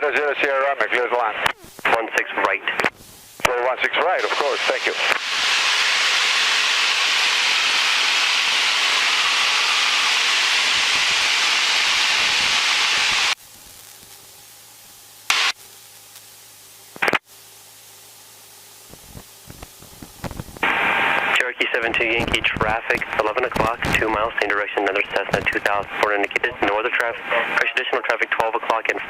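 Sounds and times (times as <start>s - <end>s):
faint steady hum: 0.0s - 29.0s
radio static hiss: 0.0s - 29.0s
short bursts of static: 0.0s - 29.0s.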